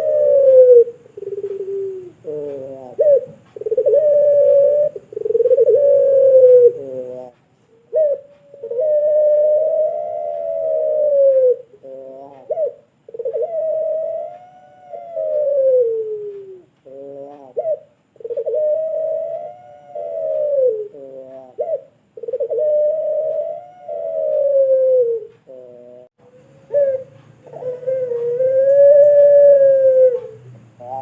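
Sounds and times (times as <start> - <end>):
dove cooing: 0.0 - 31.0.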